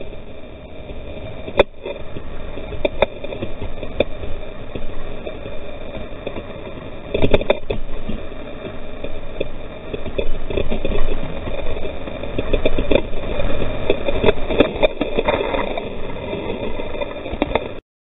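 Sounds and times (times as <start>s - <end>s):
water splashing against boat: 0.0s - 17.8s.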